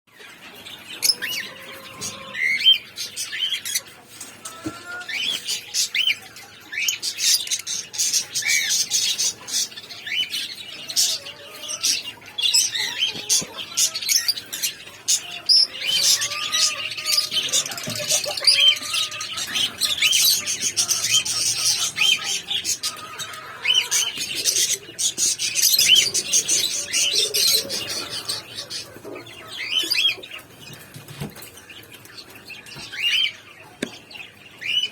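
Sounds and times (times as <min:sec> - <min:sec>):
parrots chirping and chattering: 0:00.2 - 0:34.9.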